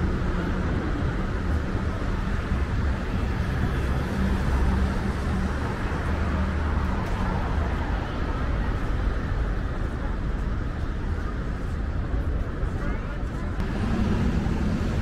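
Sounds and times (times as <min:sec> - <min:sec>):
traffic engine rumble: 0:00.0 - 0:15.0.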